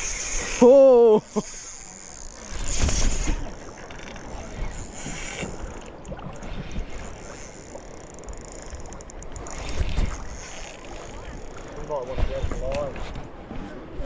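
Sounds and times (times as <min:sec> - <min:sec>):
fishing reel winding: 0:00.0 - 0:12.9.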